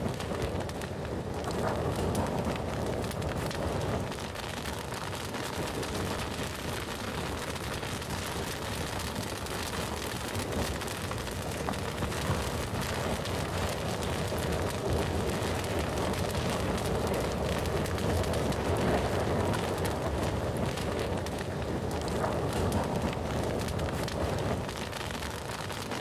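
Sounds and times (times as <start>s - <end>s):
campfire hissing: 0.0s - 26.0s
crackles and pops of burning wood: 0.0s - 26.0s.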